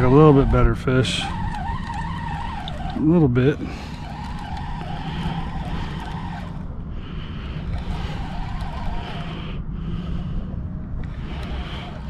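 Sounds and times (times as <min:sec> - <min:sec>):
fishing reel gears whirring: 0:00.0 - 0:10.4, 0:11.0 - 0:12.0
wind rumble on microphone: 0:00.0 - 0:12.0.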